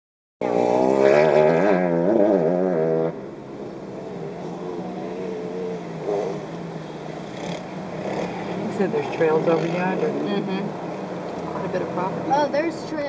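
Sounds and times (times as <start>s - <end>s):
off-road vehicle engine running: 0.4s - 13.0s.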